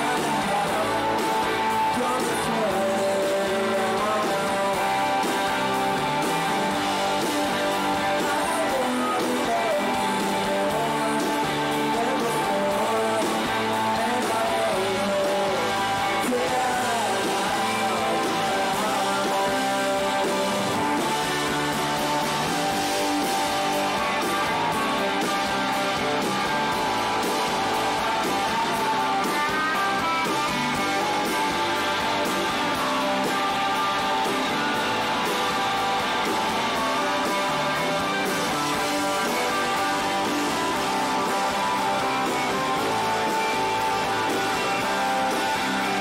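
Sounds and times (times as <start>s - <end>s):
man singing: 0.0s - 34.8s, 35.6s - 46.0s
distorted electric guitars: 0.0s - 46.0s
drum kit: 0.0s - 46.0s.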